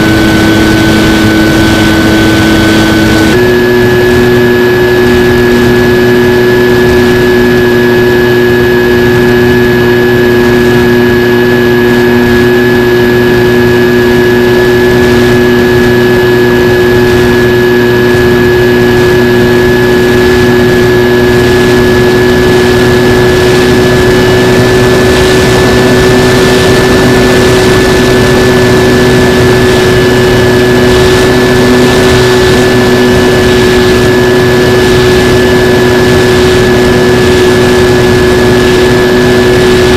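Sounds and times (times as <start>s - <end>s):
propeller motor whining: 0.0s - 39.9s
wind rush: 0.0s - 39.9s.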